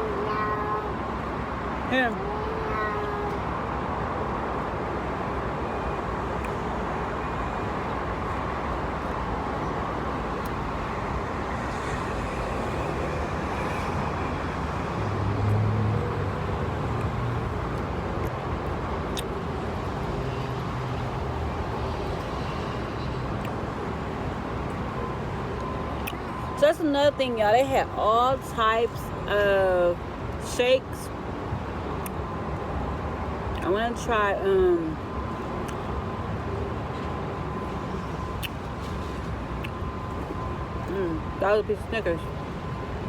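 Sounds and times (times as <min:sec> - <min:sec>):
road traffic noise: 0:00.0 - 0:43.0.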